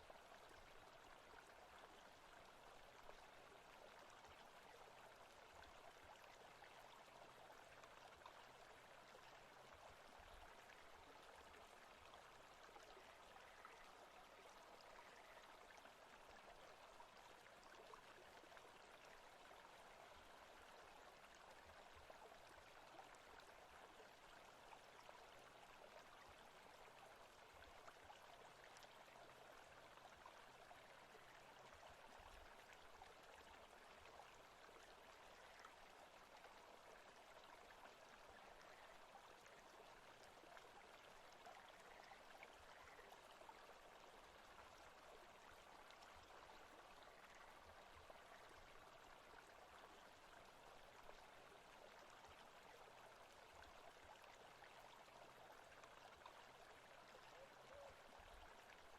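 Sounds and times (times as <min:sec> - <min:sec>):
faint running stream: 0:00.0 - 0:58.9.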